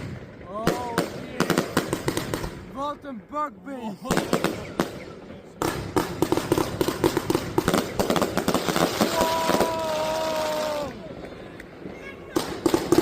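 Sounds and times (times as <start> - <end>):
fireworks reports and crackles: 0.0 - 13.0.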